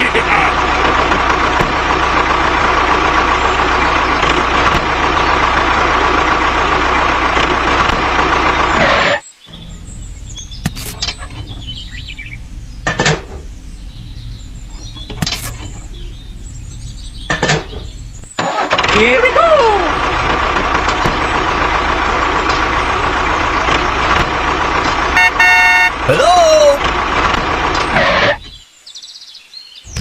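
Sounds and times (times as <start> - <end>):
diesel engine running: 0.0 - 28.6
low hum: 0.0 - 28.6.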